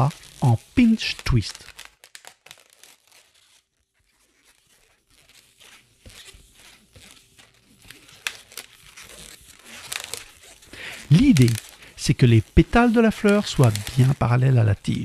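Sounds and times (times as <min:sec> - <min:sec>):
balloon rubbing and squeaking: 0:00.0 - 0:15.0.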